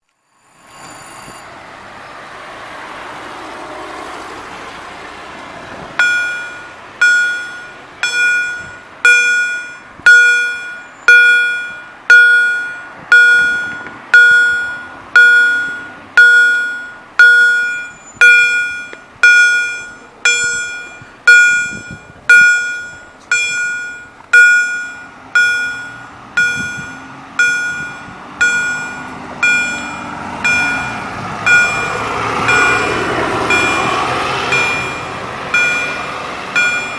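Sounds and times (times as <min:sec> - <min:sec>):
railroad crossing bell ringing: 0:00.1 - 0:01.6, 0:06.0 - 0:36.9.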